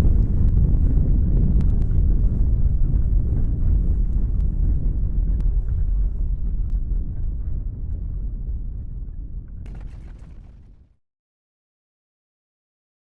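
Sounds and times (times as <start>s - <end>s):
deep low rumble: 0.0s - 10.9s.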